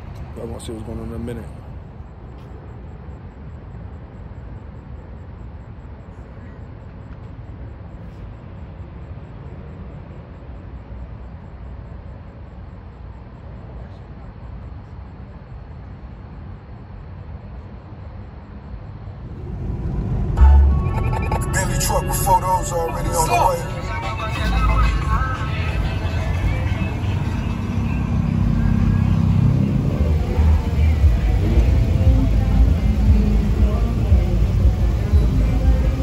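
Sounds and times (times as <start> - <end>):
vehicle rumble: 0.0 - 36.0.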